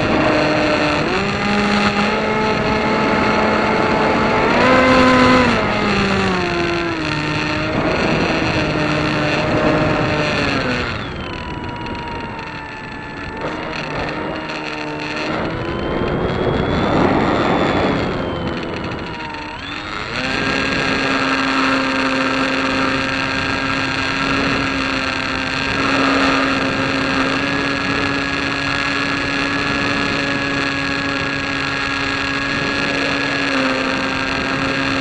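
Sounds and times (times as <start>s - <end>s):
piston engine running: 0.0s - 35.0s
quieter engine with gliding pitch: 0.0s - 35.0s.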